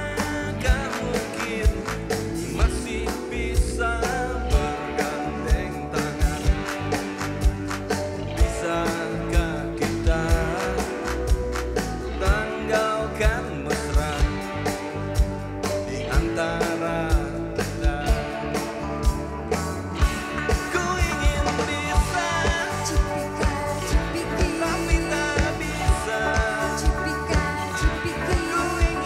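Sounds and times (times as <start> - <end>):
person singing: 0.0 - 14.9, 15.6 - 19.2, 20.1 - 29.0
rock band playing live: 0.0 - 29.0.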